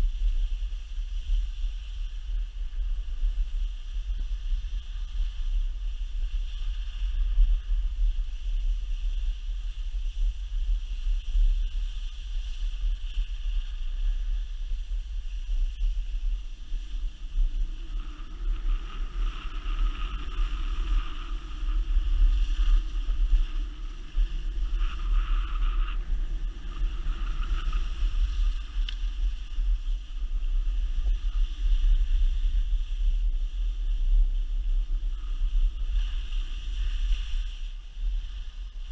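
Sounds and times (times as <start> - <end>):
faint hum: 0.0 - 38.9
wind buffeting microphone: 0.0 - 38.9.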